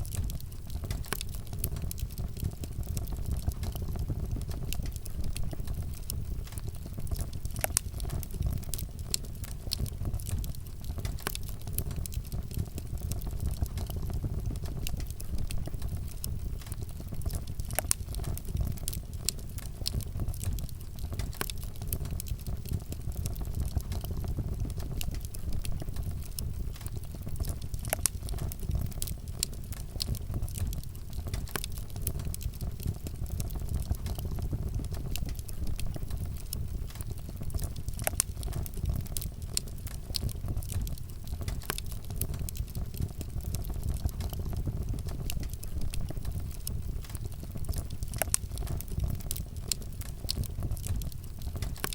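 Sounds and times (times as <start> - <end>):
fire low rumble: 0.0 - 51.9
wood fire crackling and popping: 0.0 - 51.9.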